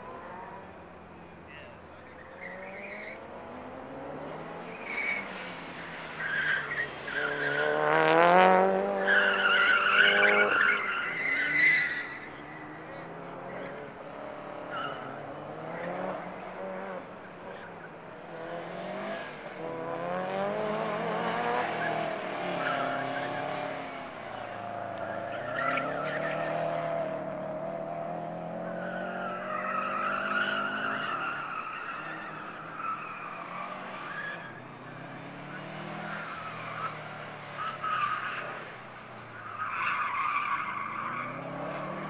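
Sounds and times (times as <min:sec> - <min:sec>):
car engine revving: 0:00.0 - 0:38.8, 0:40.2 - 0:42.0
tires squealing: 0:00.0 - 0:42.0.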